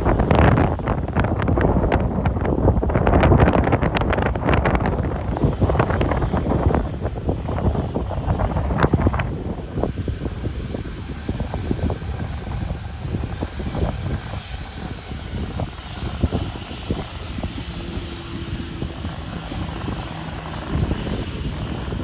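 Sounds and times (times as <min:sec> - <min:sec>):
airliner engines roaring: 0:00.0 - 0:22.0
wind buffeting microphone: 0:00.0 - 0:22.0.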